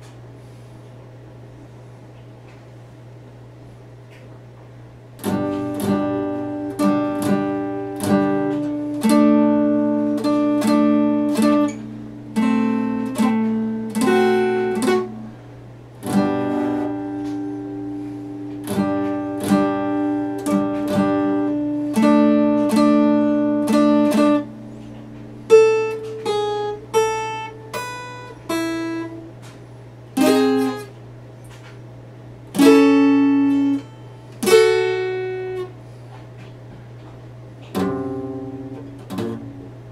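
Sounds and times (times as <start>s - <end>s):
steady low hum: 0.0s - 39.9s
acoustic guitar picking: 5.0s - 39.9s.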